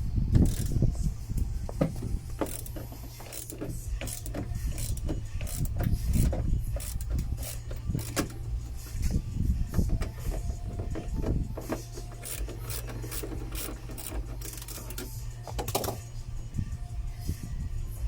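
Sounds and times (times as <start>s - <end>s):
steady low hum: 0.0s - 18.0s
metallic clicks and scraping: 0.3s - 16.5s.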